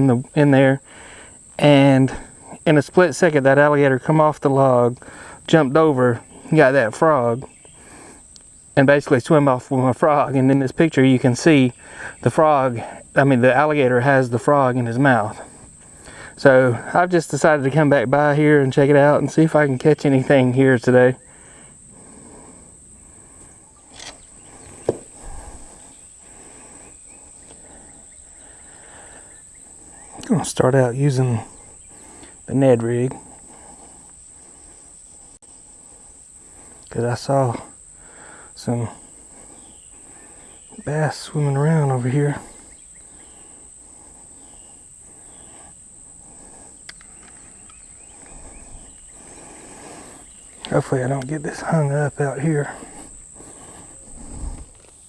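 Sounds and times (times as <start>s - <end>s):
faint outdoor background noise: 0.0s - 55.0s
high-pitched insect drone: 10.2s - 55.0s.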